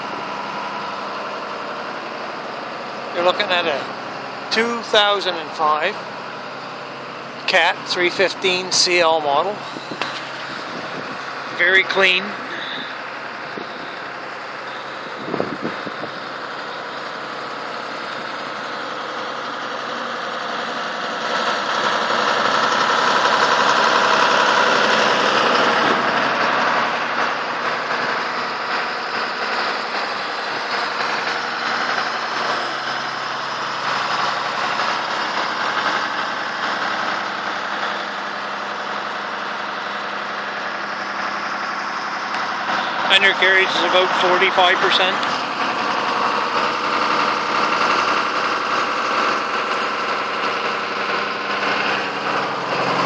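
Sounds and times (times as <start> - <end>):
excavator diesel engine idling: 0.0 - 53.0.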